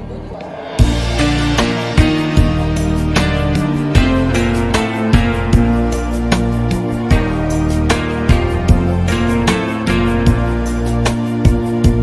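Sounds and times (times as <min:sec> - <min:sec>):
sharp beat strokes: 0:00.2 - 0:12.0
guitar over bass line: 0:00.8 - 0:12.0.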